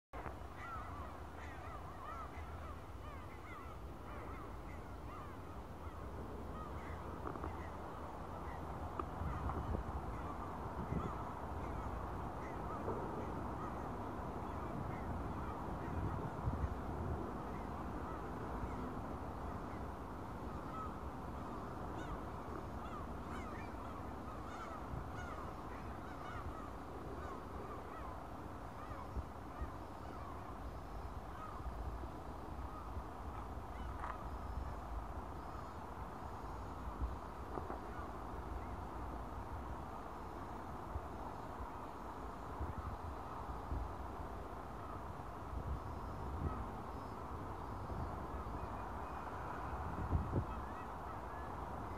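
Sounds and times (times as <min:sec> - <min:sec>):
flock of birds calling: 0:00.2 - 0:43.8, 0:44.6 - 0:51.9.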